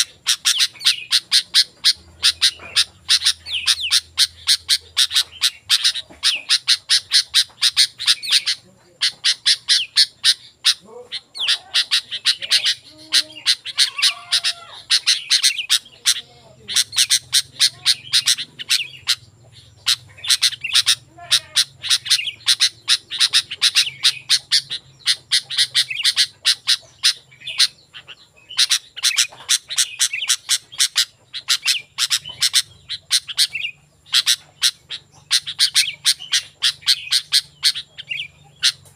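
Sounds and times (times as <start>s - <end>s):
bird chattering calls: 0.0s - 38.9s.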